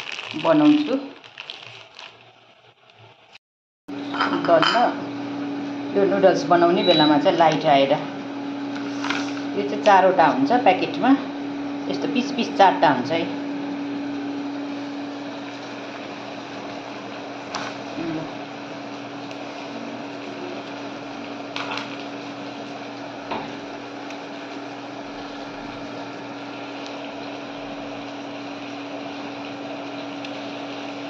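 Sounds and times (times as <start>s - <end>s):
water boiling in a pot: 0.0s - 31.0s
steady hum: 3.9s - 31.0s.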